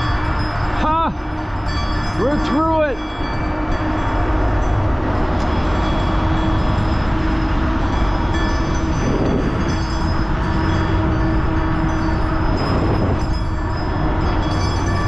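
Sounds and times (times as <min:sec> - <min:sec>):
road noise: 0:00.0 - 0:15.0
steady hum: 0:00.0 - 0:15.0
wind rumble: 0:00.0 - 0:15.0.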